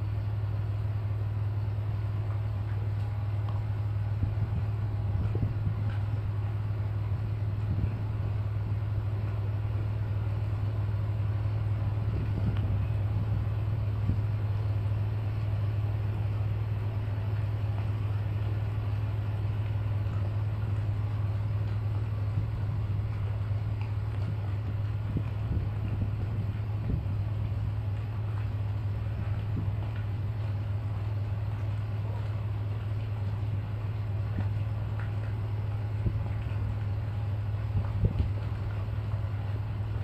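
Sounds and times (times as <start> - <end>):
marine diesel engine drone: 0.0 - 40.0.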